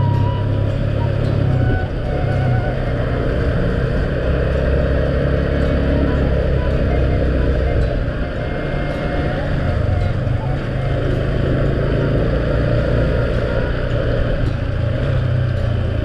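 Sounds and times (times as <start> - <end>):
tyres on wet road: 0.0 - 16.0
vehicle engine running: 0.0 - 16.0.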